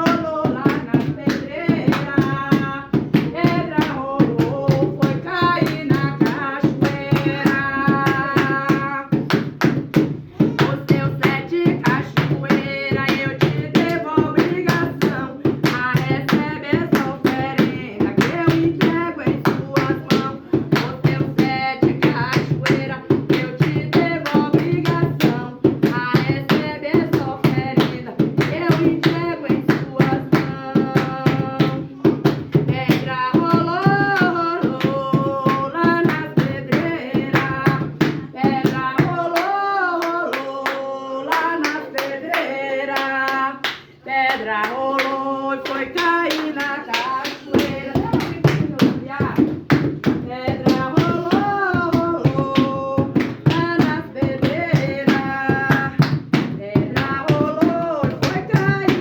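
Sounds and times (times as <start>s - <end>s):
devotional chant singing: 0.0s - 59.0s
hand claps: 0.0s - 59.0s.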